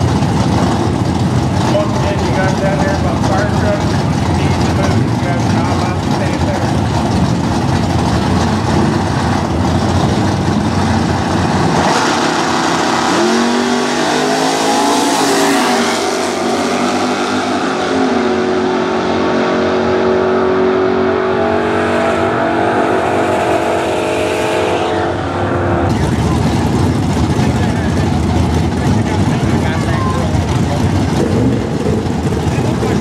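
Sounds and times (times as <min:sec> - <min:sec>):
drag racing engines at full throttle: 0:00.0 - 0:33.0.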